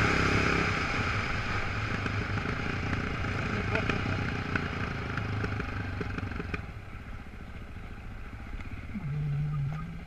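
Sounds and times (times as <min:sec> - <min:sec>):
off-road motorcycle engine: 0:00.0 - 0:10.0.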